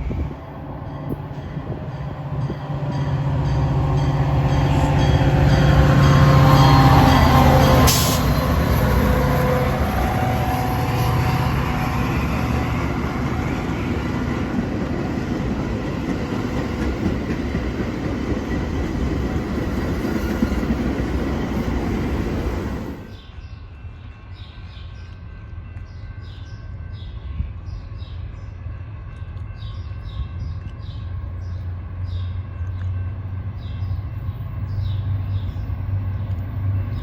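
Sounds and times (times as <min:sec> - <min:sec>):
train wheels rumbling on tracks: 0:00.0 - 0:37.0.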